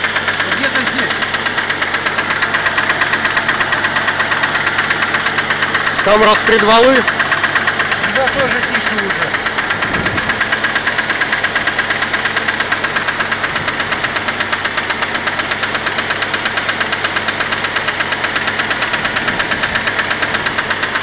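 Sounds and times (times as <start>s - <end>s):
car engine idling: 0.0s - 21.0s
rapid clacking engine knock: 0.0s - 21.0s.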